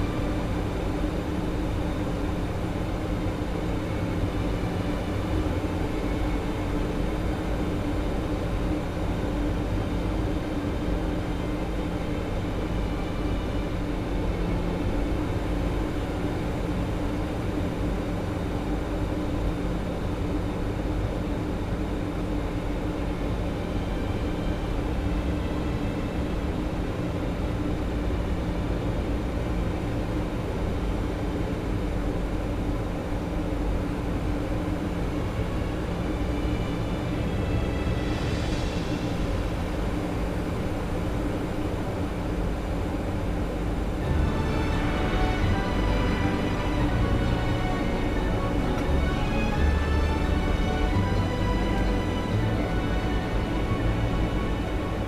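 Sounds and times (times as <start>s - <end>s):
airliner cockpit engine and airflow noise: 0.0s - 55.0s.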